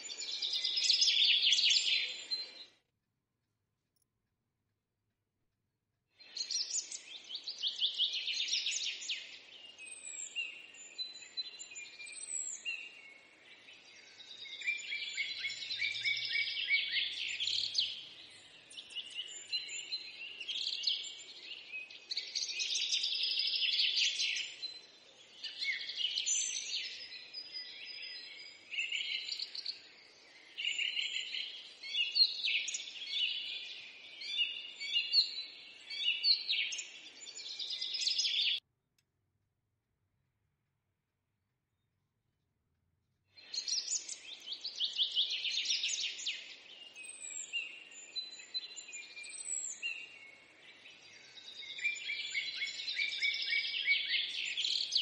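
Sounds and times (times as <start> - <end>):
small birds chirping: 0.0 - 2.8, 6.2 - 38.6, 43.4 - 55.0.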